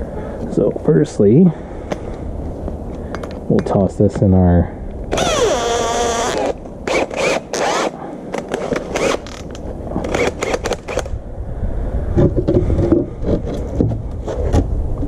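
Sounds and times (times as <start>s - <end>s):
low rumble with hum: 0.0s - 15.0s.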